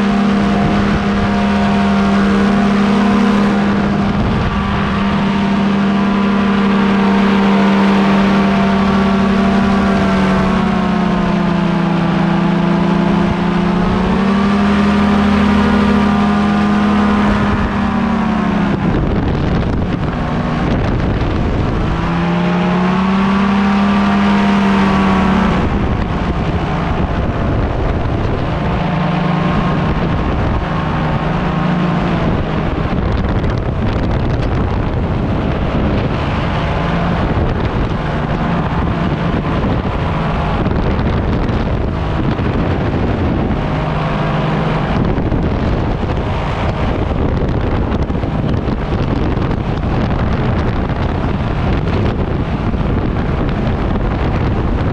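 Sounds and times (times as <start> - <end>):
paramotor engine buzzing drone: 0.0 - 54.9
wind rushing over microphone: 0.0 - 54.9.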